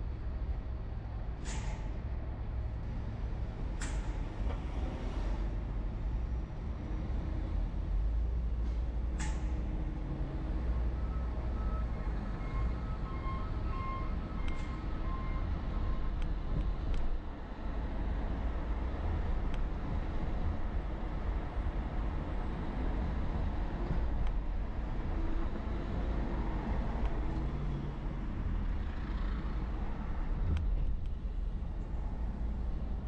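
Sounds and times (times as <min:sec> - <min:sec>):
car interior road and engine noise: 0:00.0 - 0:33.0.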